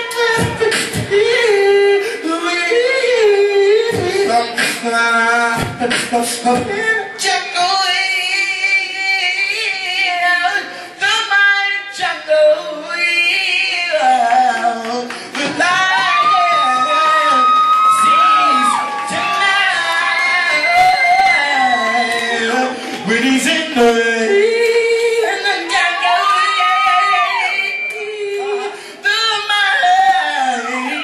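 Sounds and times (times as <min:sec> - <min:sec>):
man singing into microphone: 0:00.0 - 0:31.0.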